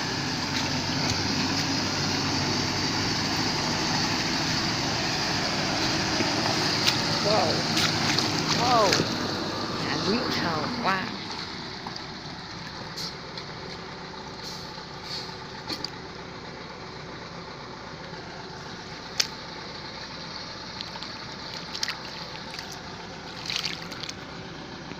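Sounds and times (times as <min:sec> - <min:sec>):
vehicle running on road: 0:00.0 - 0:24.9.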